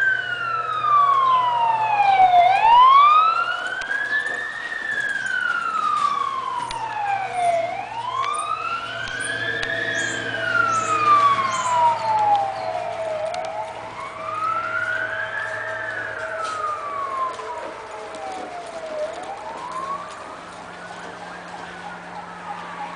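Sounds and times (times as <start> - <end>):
siren wailing: 0.0 - 22.9.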